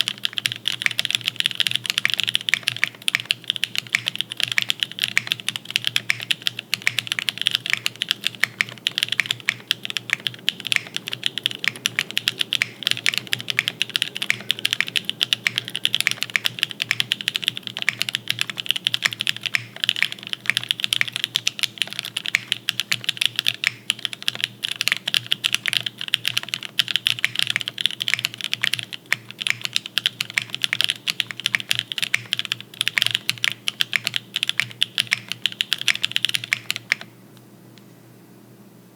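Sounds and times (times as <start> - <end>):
fast typing on mechanical keyboard: 0.0 - 37.1.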